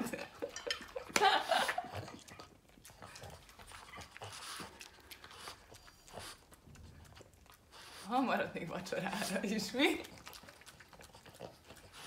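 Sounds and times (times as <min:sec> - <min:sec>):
dog snuffling and licking: 0:00.2 - 0:12.0.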